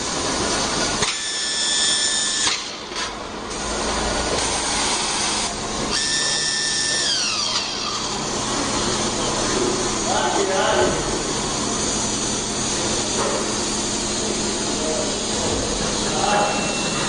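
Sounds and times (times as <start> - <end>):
high motor whine: 0.0 - 17.0.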